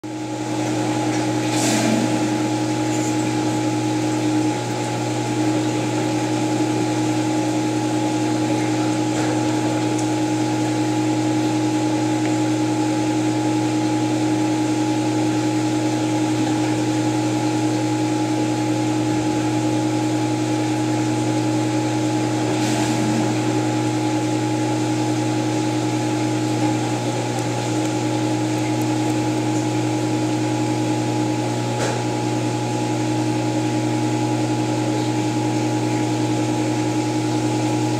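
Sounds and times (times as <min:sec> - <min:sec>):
motor hum: 0:00.0 - 0:37.9.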